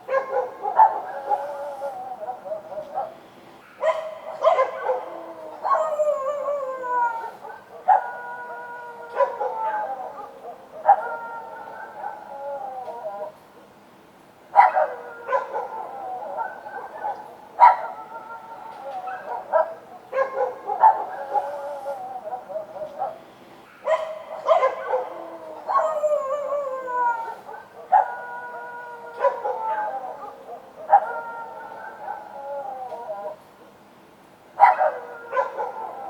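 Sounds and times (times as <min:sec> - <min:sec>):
dogs barking and howling: 0:00.0 - 0:13.4, 0:14.5 - 0:33.6, 0:34.6 - 0:36.0.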